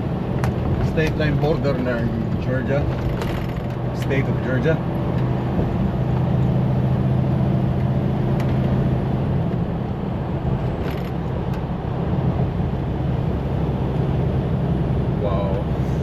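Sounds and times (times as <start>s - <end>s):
road and tyre noise: 0.0s - 16.0s
truck engine drone: 0.0s - 16.0s.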